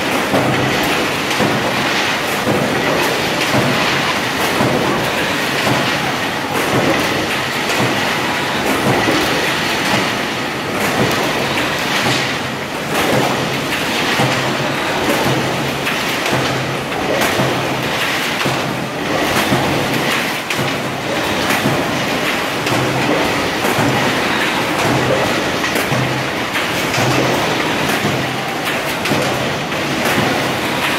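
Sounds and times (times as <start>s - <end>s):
production line machinery: 0.0s - 30.9s.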